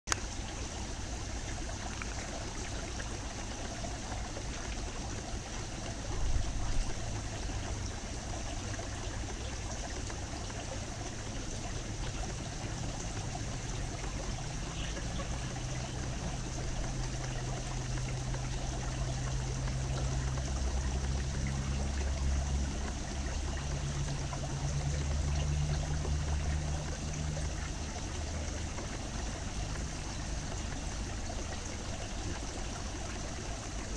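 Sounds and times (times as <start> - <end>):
low hum: 0.1 - 33.9
running water trickling: 0.1 - 33.9.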